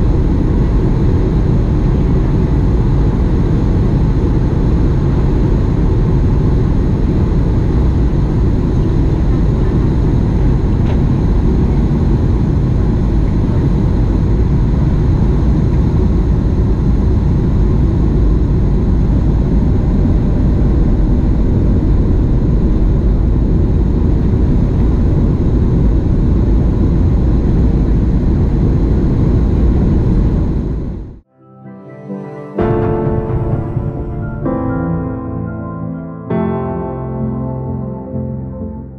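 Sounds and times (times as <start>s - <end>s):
airliner cabin drone: 0.0s - 31.2s, 31.8s - 38.9s
faint steady whine: 0.0s - 31.2s.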